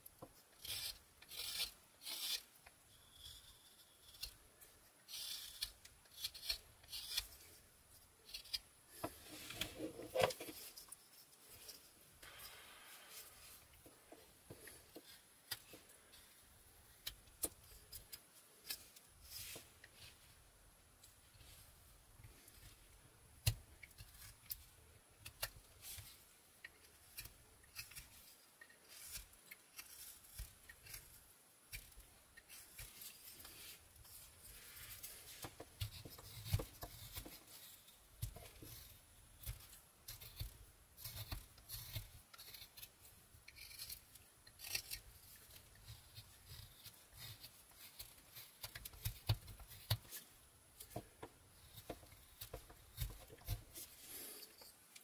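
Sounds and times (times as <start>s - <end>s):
knife carving wood shavings: 0.1s - 20.4s, 21.0s - 55.0s.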